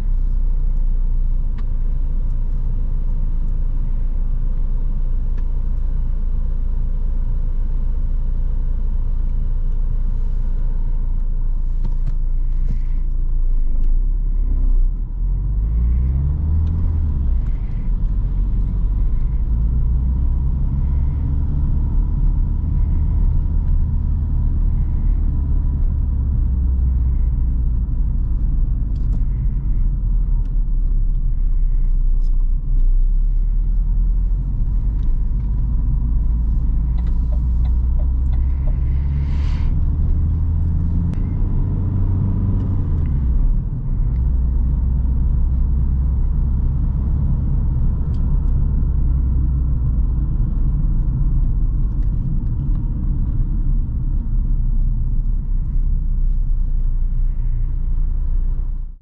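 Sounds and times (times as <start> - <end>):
diesel engine drone: 0.0 - 59.0
road noise: 0.0 - 59.0.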